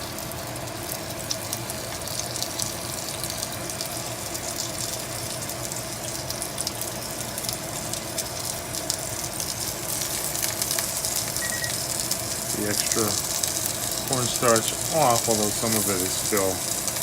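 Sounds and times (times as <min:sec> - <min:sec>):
chicken sizzling in hot oil: 0:00.0 - 0:17.0
range hood fan hum: 0:00.0 - 0:17.0.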